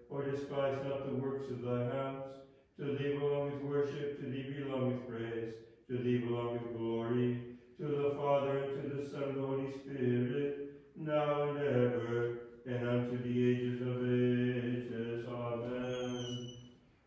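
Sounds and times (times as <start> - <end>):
voices chanting a hymn: 0.0 - 16.4.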